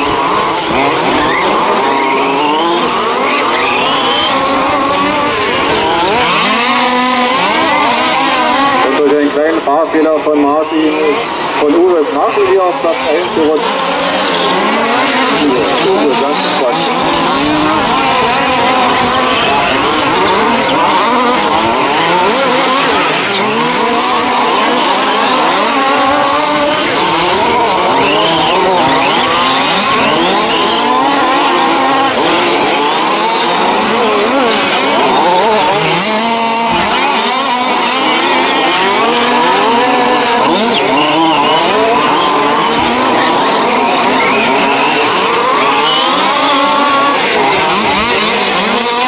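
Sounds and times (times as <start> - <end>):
small two-stroke engines revving: 0.0 - 49.0.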